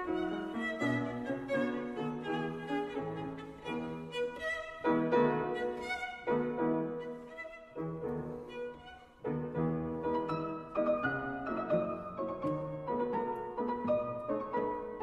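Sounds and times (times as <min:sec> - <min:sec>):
violin melody with accompaniment: 0:00.0 - 0:15.0.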